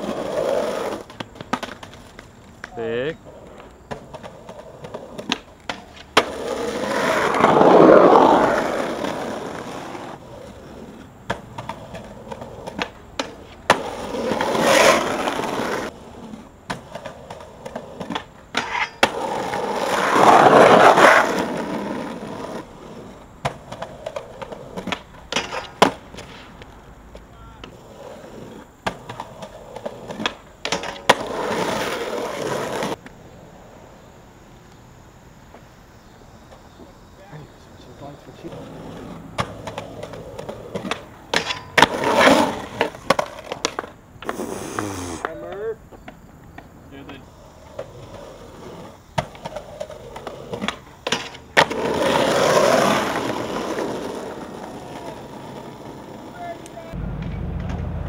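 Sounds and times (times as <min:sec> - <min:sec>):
skateboard clacking on ground: 0:00.0 - 0:33.2, 0:38.2 - 0:58.0
skateboard wheels rolling on pavement: 0:00.0 - 0:58.0.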